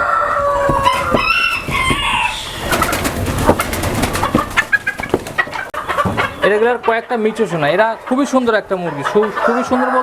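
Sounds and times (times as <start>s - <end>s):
chickens calling: 0.0s - 10.0s.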